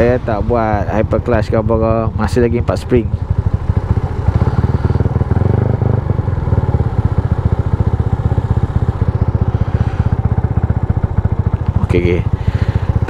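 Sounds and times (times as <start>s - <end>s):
motorcycle engine running at low revs: 0.0s - 13.0s.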